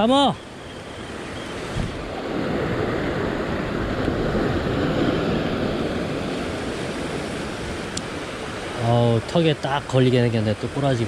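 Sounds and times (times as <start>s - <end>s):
ocean surf washing over rock: 0.0s - 11.0s.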